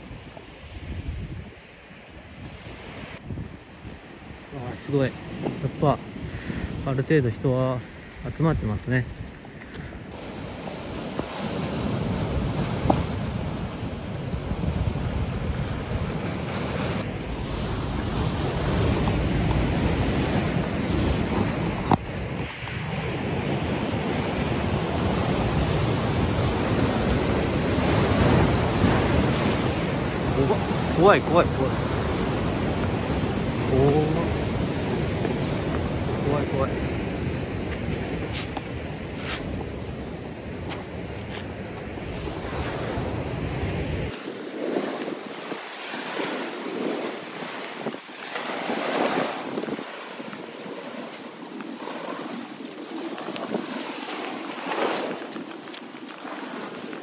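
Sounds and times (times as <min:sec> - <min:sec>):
wind buffeting microphone: 0:00.0 - 0:07.0, 0:07.8 - 0:57.0
waves breaking on rocky shore: 0:00.0 - 0:57.0.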